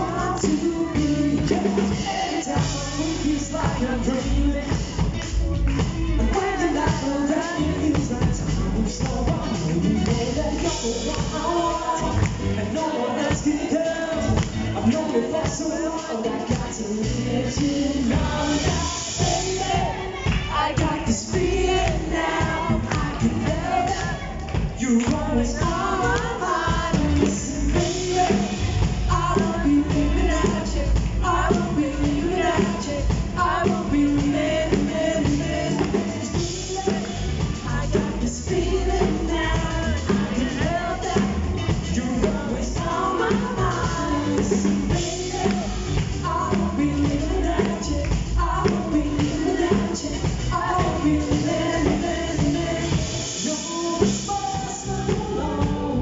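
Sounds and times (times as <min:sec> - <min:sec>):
drum kit: 0:00.0 - 0:56.0
electric bass guitar: 0:00.0 - 0:56.0
man singing into a microphone: 0:00.0 - 0:56.0.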